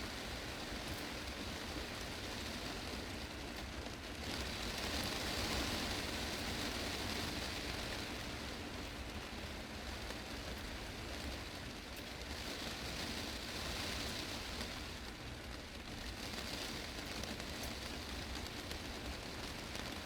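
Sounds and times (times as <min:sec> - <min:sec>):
heavy rain on glass roof: 0:00.0 - 0:20.0.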